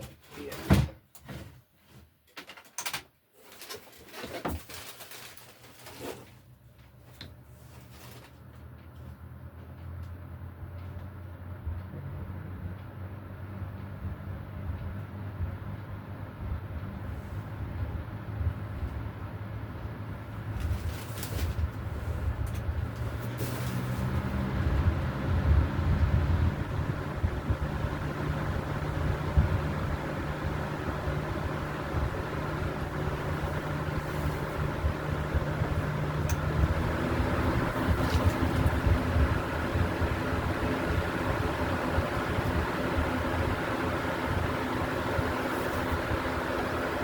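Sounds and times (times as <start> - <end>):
fan motor humming: 4.5 - 47.0.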